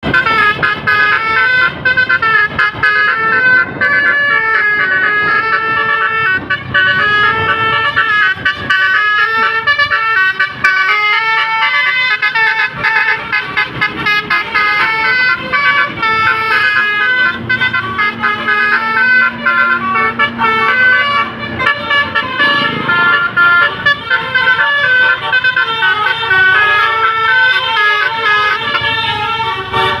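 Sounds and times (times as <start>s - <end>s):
musical bus horn melody: 0.0s - 30.0s.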